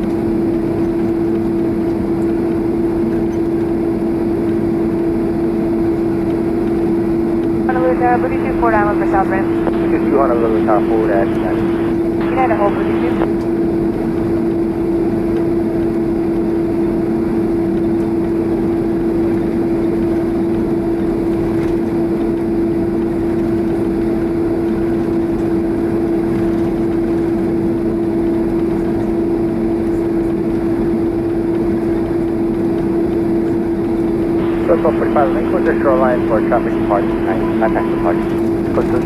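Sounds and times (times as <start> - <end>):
airplane cabin engine drone: 0.0 - 39.0.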